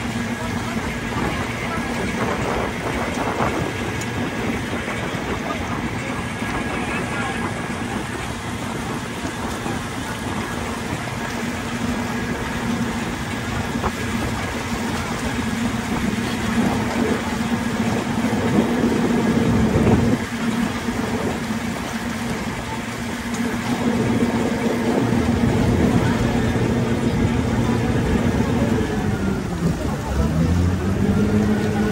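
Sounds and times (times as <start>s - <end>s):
boat engine droning: 0.0s - 31.9s.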